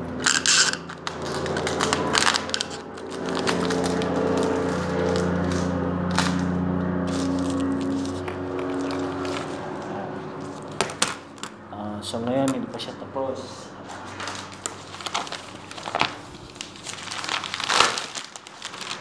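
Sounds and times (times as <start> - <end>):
wrapping paper crinkling: 0.2 - 11.5, 13.8 - 19.0.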